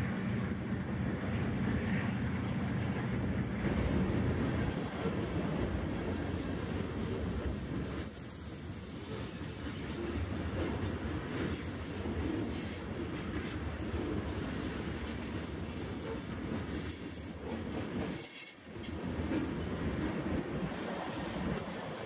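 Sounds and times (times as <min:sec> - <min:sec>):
freight train wheels clattering on rails: 0:03.6 - 0:22.0.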